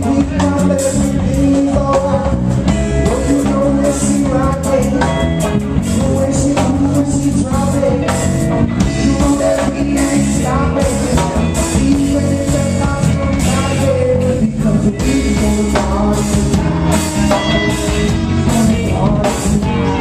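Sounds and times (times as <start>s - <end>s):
man singing: 0.0s - 20.0s
reggae band playing: 0.0s - 20.0s.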